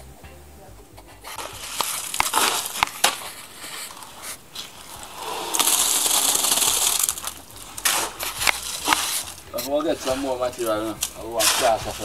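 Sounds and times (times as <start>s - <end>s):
wet concrete scraping: 1.0s - 12.0s
wet concrete pouring: 1.4s - 12.0s.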